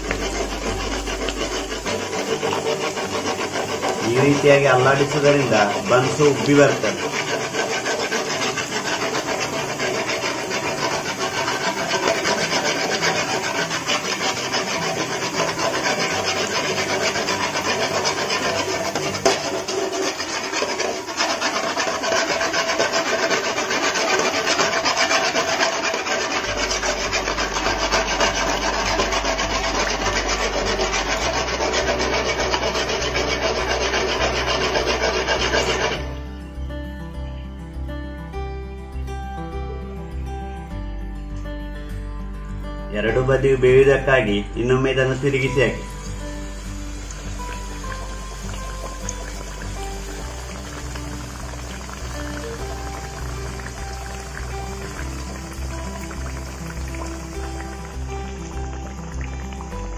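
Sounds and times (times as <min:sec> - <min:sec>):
buns sizzling in hot oil: 0:00.0 - 0:36.2, 0:45.2 - 0:59.9
ladle stirring oil: 0:00.0 - 0:36.2, 0:45.0 - 0:59.9
background music: 0:00.0 - 0:59.9.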